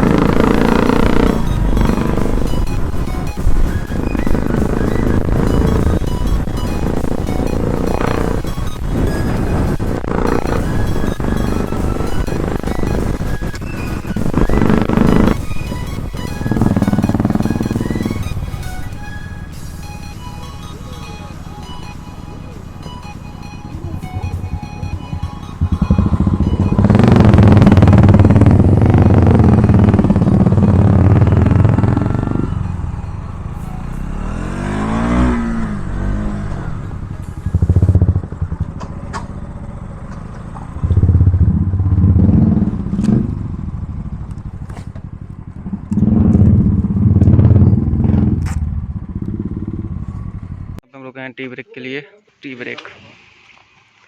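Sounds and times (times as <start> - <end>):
motorcycle engines revving: 0.0 - 50.8
vehicle passing close: 0.0 - 50.8.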